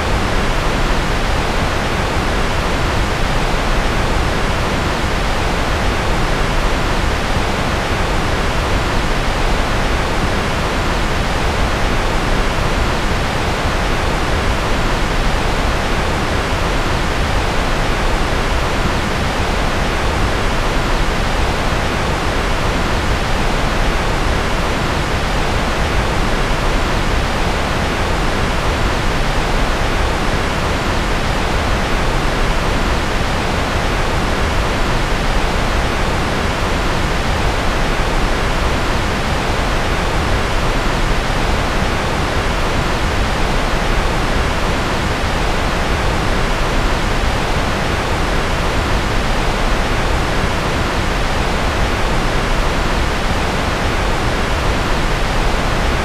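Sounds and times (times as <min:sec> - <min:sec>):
steady synthetic noise hiss: 0:00.0 - 0:56.0.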